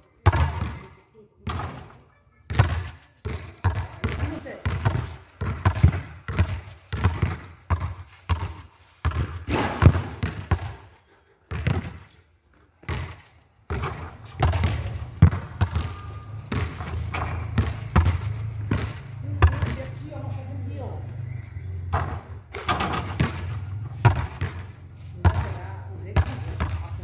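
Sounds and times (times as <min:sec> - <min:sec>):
basketball bouncing on hard court: 0:00.2 - 0:00.9, 0:02.5 - 0:10.8, 0:11.5 - 0:12.1, 0:12.8 - 0:20.2, 0:21.9 - 0:27.0.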